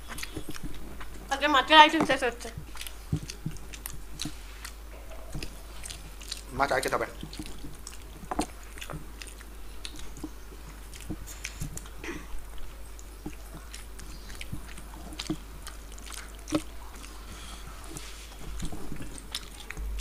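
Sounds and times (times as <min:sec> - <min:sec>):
chewing and wet mouth smacks: 0:00.0 - 0:01.3, 0:02.0 - 0:20.0.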